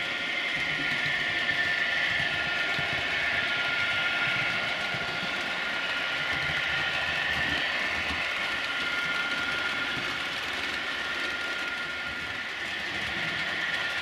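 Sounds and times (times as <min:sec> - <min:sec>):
model trains humming and whining: 0:00.0 - 0:14.0.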